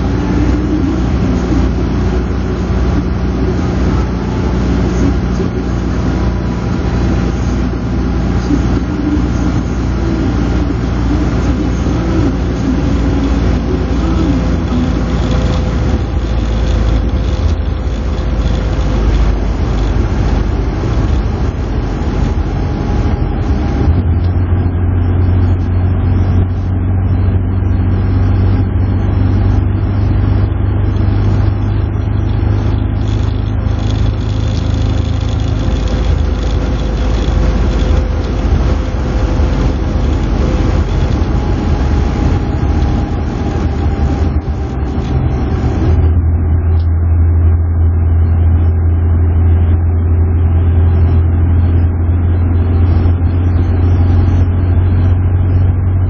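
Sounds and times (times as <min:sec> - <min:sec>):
car engine drone: 0:00.0 - 0:56.0.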